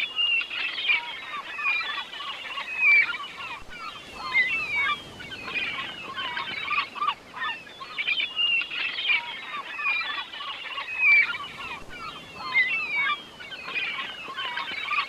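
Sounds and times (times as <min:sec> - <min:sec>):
flock of birds chattering: 0:00.0 - 0:15.0.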